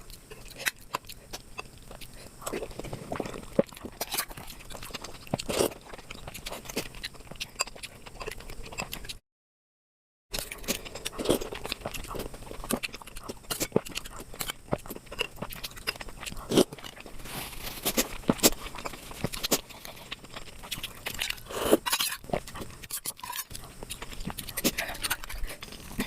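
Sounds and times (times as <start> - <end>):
chewing and biting dessert: 0.0 - 9.2, 10.3 - 26.0.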